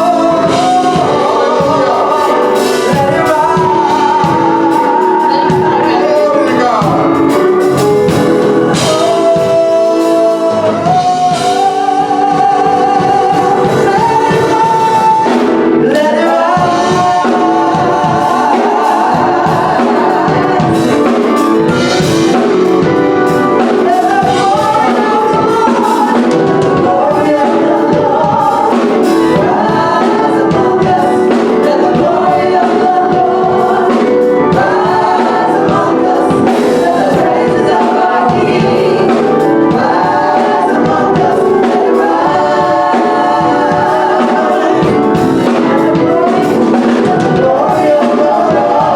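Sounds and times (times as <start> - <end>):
gospel choir singing: 0.0 - 48.9.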